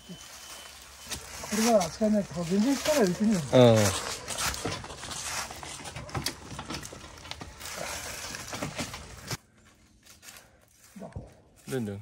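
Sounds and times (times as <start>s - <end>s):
wheels crunching dry leaves: 0.0s - 12.0s.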